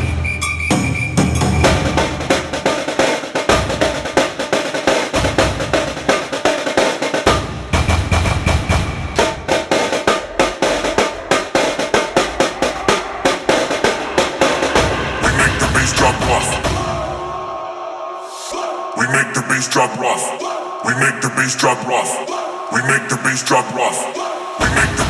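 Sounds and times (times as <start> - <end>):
electronic dance music: 0.0 - 17.7, 18.5 - 25.0.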